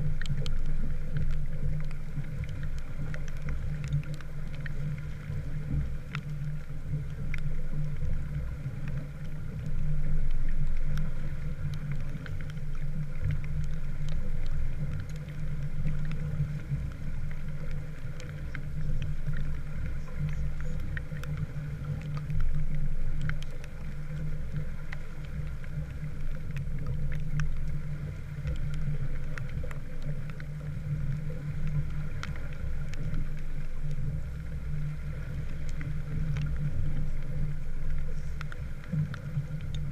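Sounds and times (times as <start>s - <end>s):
light ticks of rain: 0.0s - 39.9s
steady low hum: 0.0s - 39.9s
water noise: 0.0s - 39.9s.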